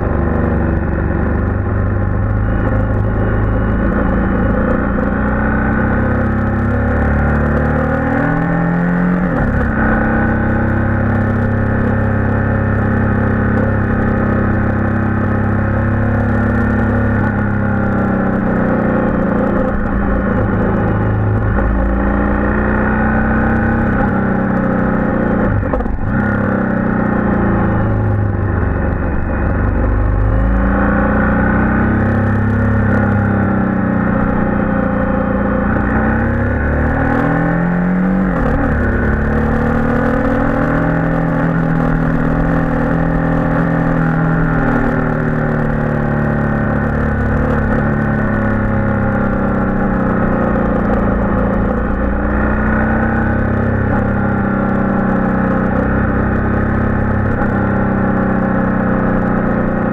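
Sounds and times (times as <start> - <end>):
rock music with distorted guitar: 0.0 - 59.9.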